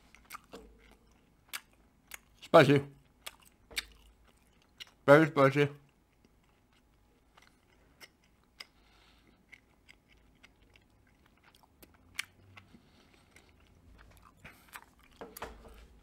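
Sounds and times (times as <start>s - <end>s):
mouth chewing wet clicks: 0.1s - 5.1s, 5.8s - 15.4s.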